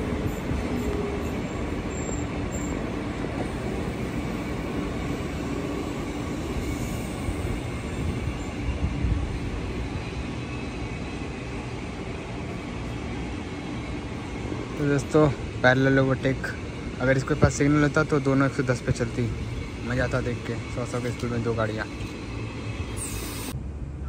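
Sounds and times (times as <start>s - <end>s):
passenger train rumbling past: 0.0s - 24.0s.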